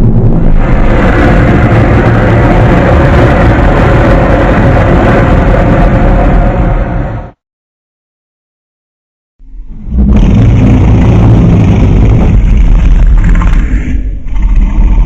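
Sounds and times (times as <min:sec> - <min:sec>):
loud low rumbling: 0:00.0 - 0:07.4, 0:09.4 - 0:15.0.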